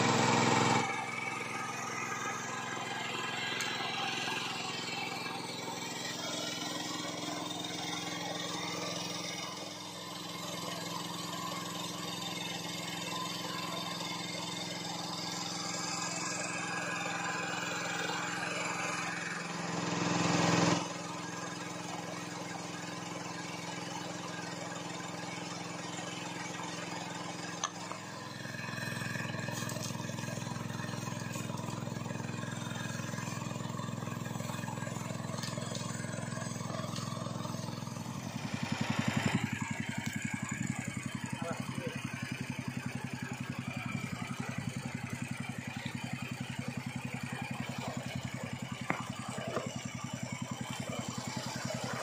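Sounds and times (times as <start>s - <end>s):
small water pump engine running: 0.0s - 52.0s.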